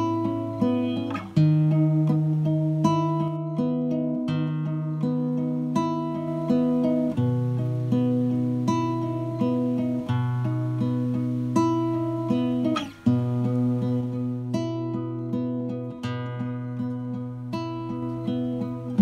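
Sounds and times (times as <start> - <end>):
acoustic guitar picking chords: 0.0 - 19.0.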